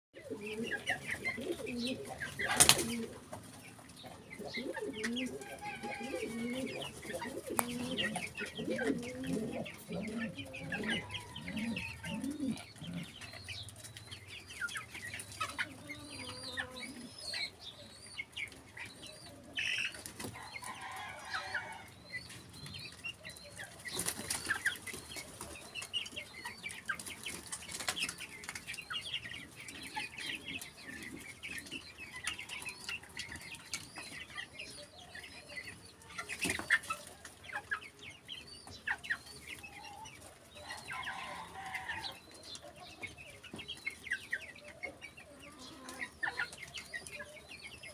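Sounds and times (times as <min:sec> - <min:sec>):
birds chirping: 0:00.2 - 0:47.9.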